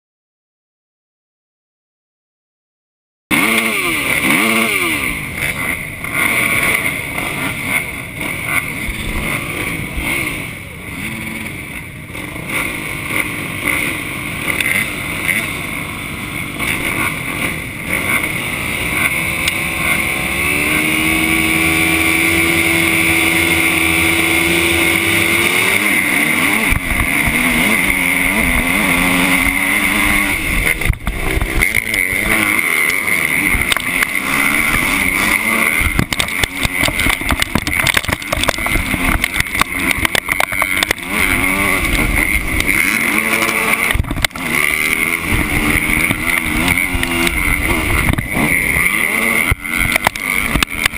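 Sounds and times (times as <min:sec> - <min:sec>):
motocross bike engine revving: 0:03.3 - 0:50.9.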